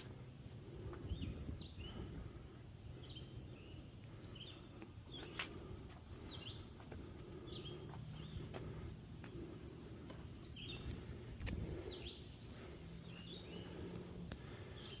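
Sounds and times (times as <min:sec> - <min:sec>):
steady low rumble: 0:00.0 - 0:15.0
bird chirping: 0:00.1 - 0:15.0.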